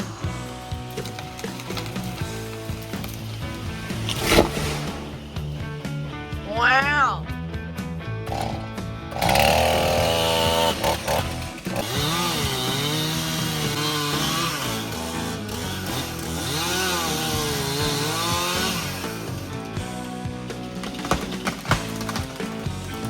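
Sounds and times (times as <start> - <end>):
chainsaw cutting wood: 0.0 - 6.0, 8.3 - 23.0
background music: 0.0 - 23.0.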